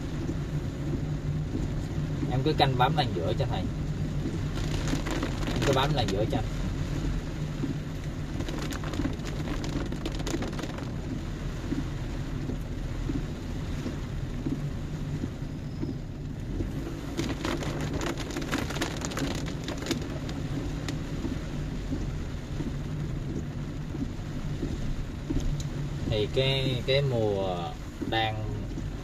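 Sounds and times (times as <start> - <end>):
car engine humming: 0.0 - 29.0
heavy rain on car roof: 0.0 - 29.0.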